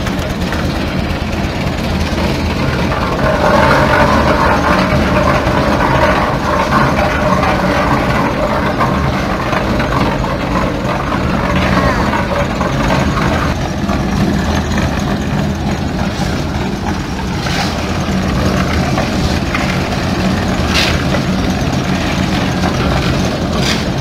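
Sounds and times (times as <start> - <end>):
concrete mixer engine drone: 0.0 - 24.0
mixer drum churning: 0.0 - 24.0.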